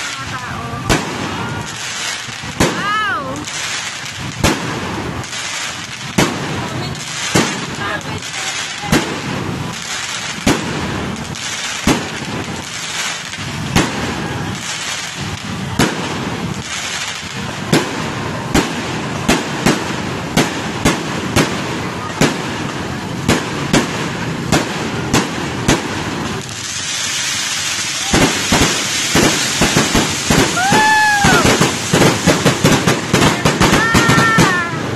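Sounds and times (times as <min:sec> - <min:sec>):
firework hiss: 0:00.0 - 0:34.9
firework shells bursting: 0:00.0 - 0:34.9
steady background noise: 0:00.0 - 0:34.9.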